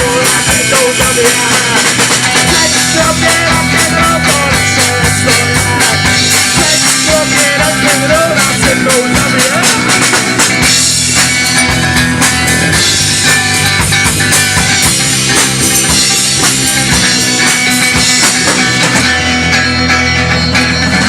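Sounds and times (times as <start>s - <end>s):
rock band guitar and drums: 0.0s - 21.0s.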